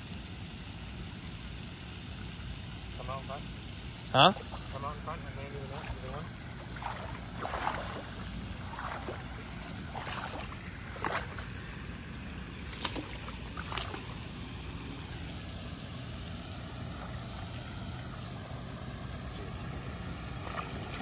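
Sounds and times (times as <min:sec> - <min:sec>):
water splashing: 0:04.1 - 0:21.0.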